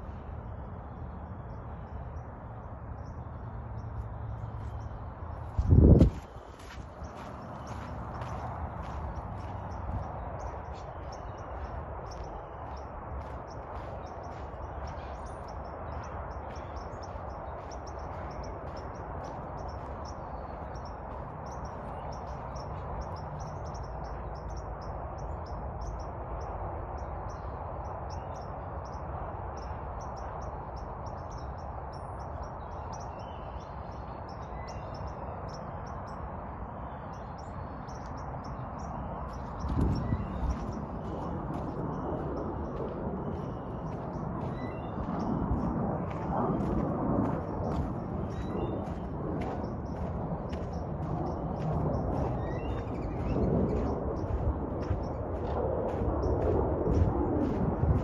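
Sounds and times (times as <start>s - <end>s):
bird chirping: 0.8s - 45.4s, 47.7s - 57.6s.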